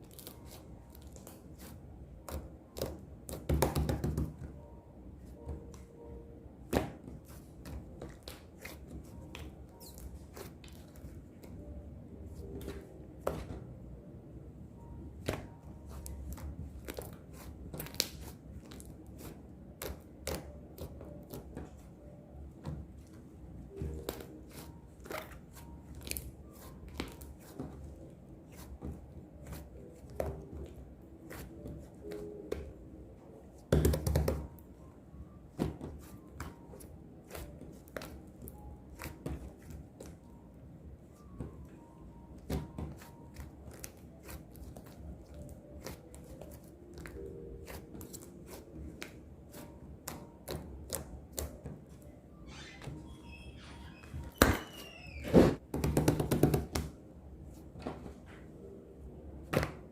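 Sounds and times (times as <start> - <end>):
room hum: 0.0 - 59.9.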